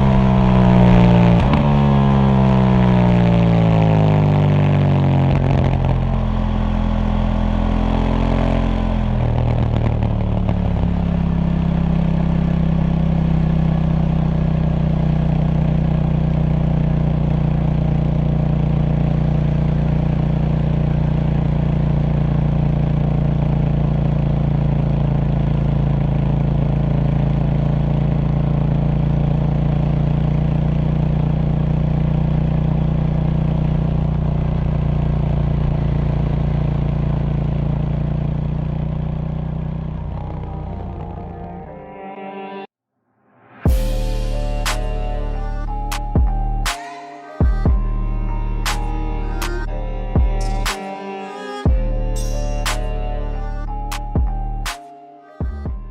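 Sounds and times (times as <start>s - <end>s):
motorcycle engine revving and idling: 0.0s - 41.5s, 43.7s - 46.8s, 47.4s - 50.8s, 51.7s - 54.8s.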